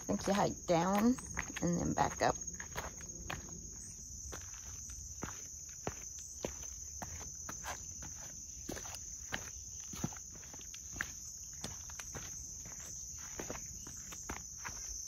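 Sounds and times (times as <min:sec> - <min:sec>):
footsteps on dirt trail: 0:00.0 - 0:15.0
insects droning: 0:00.0 - 0:15.0.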